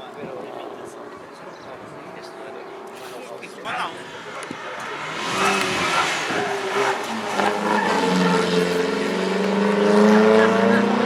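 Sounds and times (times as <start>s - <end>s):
rally car engine revving: 1.8s - 11.0s.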